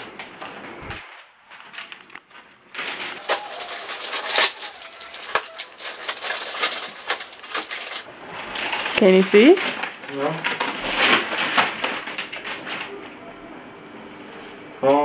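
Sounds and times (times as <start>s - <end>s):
paper wrapping rustling and tearing: 0.0s - 13.2s.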